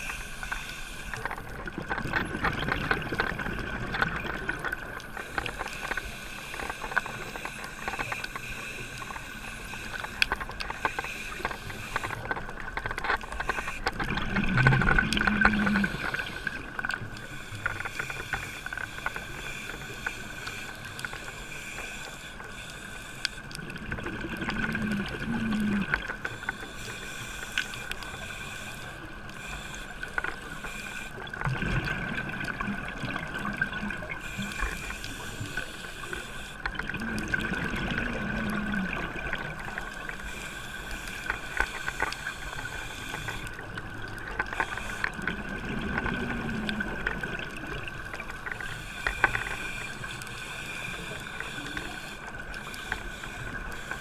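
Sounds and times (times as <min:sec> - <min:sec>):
small clicks: 0:00.0 - 0:54.0
steady underwater hiss: 0:00.0 - 0:54.0.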